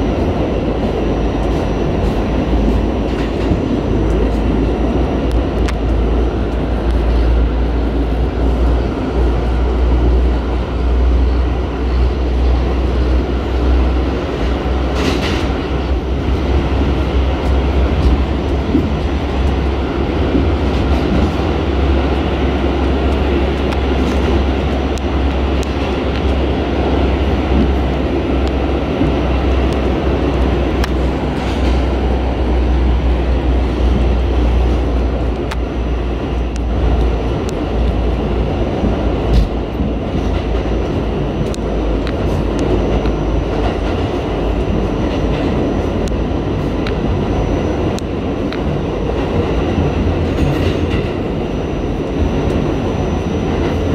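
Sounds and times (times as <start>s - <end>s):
subway wheels rumbling on rail: 0.0s - 53.9s.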